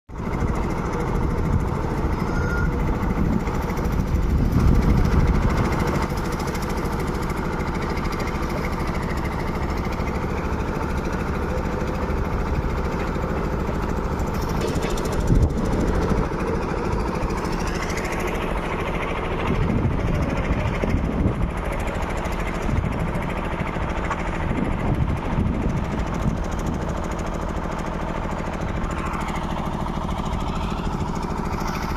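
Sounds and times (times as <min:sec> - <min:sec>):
small engine running: 0:00.1 - 0:31.9.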